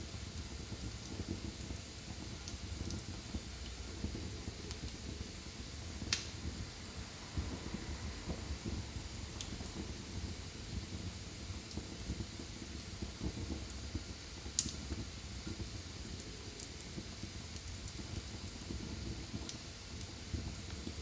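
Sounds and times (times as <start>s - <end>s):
fire crackling: 0.0s - 21.0s
fire popping: 0.0s - 21.0s
fire rumbling: 0.0s - 21.0s.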